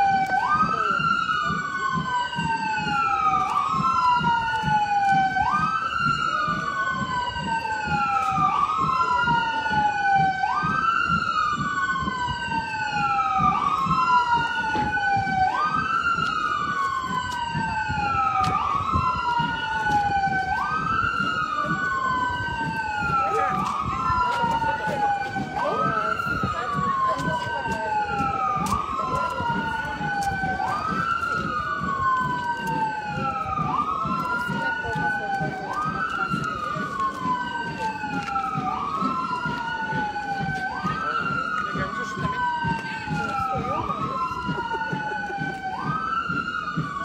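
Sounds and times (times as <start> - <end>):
siren wailing: 0.0 - 47.0.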